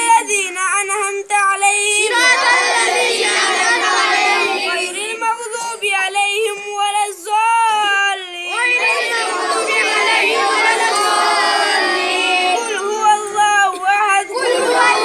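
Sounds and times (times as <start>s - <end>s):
boy chanting prayer recitation: 0.0s - 15.0s
children's voices: 0.0s - 15.0s.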